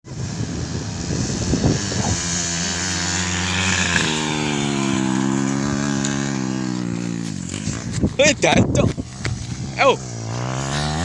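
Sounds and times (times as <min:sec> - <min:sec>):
motorcycle engines at high revs: 0:00.1 - 0:11.0.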